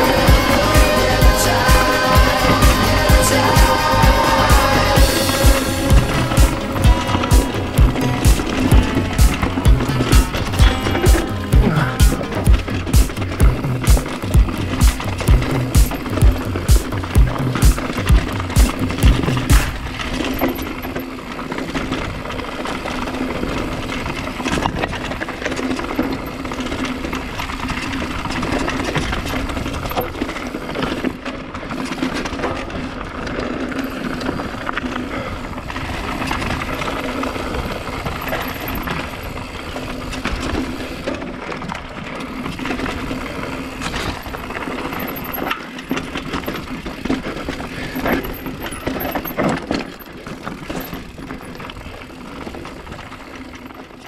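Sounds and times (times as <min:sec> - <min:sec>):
mountain bike rattling: 0:00.0 - 0:54.0.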